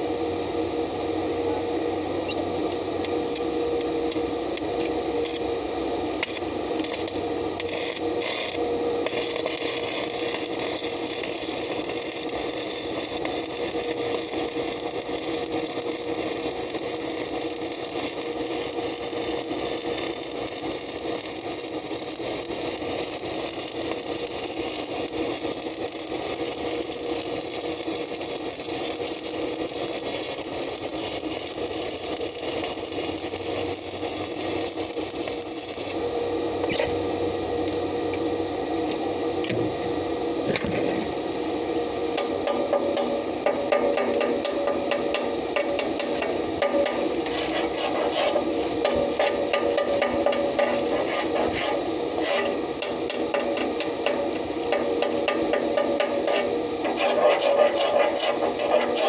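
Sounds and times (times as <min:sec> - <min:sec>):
steady hum: 0:00.0 - 0:59.0
welding arc crackling: 0:06.2 - 0:37.0, 0:41.2 - 0:59.0.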